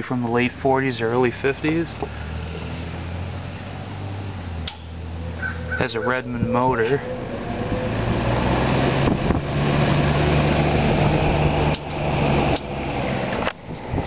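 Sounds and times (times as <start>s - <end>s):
fan motor hum: 0.7s - 14.0s.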